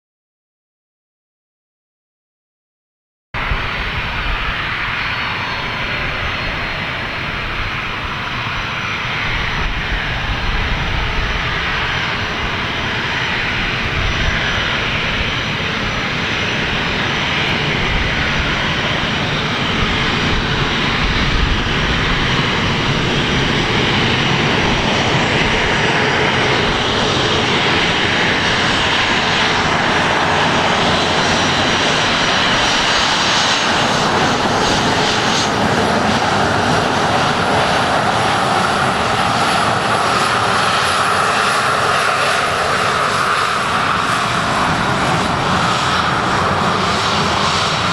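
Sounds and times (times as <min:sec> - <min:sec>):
jet engines roaring: 0:03.4 - 0:47.9.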